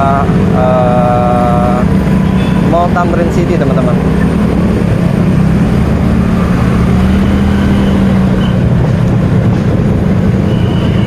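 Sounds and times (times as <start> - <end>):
motorcycle engine running: 0.0 - 11.0
road rumble: 0.0 - 11.0.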